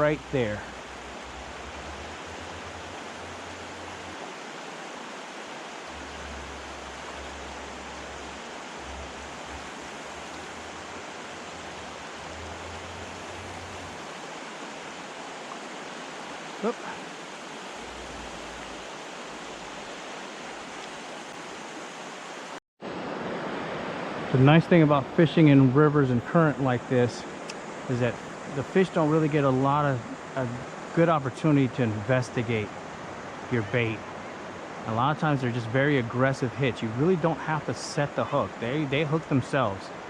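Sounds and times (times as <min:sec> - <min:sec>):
river rapids rushing: 0:00.0 - 0:40.0.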